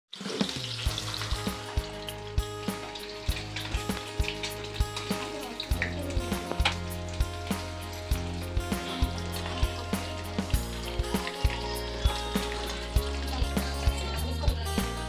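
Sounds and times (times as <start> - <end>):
eggs sizzling in hot oil: 0.1 - 15.0
background music with steady beat: 0.8 - 15.0.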